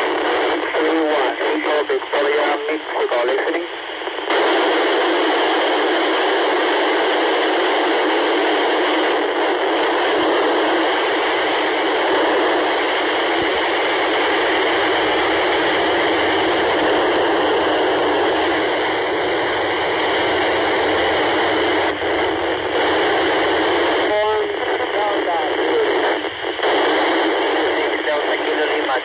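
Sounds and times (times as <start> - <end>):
radio static hiss: 0.0 - 29.0.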